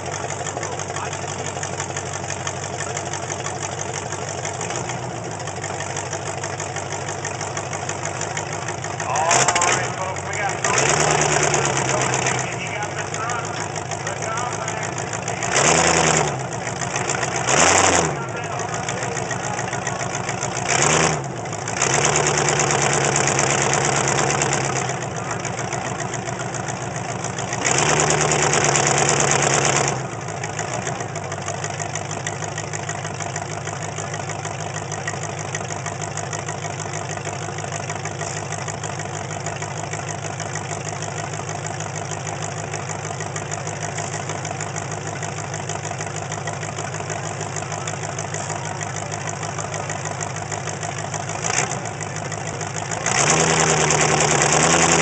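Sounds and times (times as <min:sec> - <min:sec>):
truck engine revving and idling: 0:00.0 - 0:55.0.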